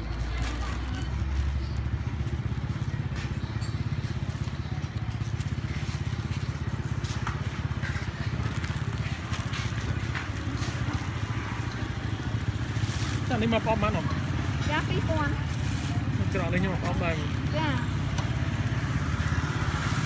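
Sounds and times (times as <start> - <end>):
small engine running: 0.2 - 20.0.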